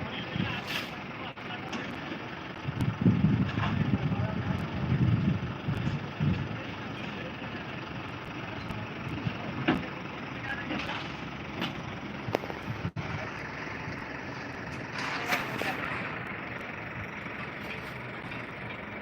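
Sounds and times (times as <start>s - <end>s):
heavy machinery rumble: 0.0s - 19.0s.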